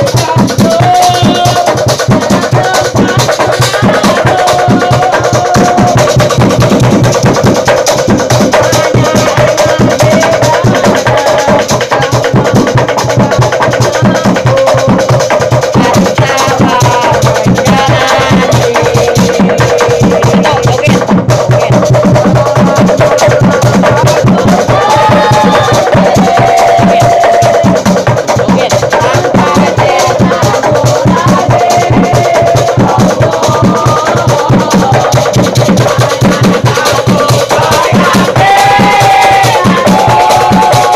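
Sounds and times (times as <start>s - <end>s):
group chanting and shouting: 0.0s - 40.9s
hand-struck drums: 0.0s - 40.9s.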